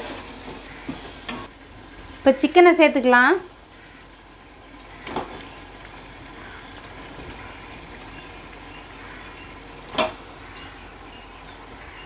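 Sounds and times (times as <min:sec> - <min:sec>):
sauce simmering in a pot: 0:00.0 - 0:12.0.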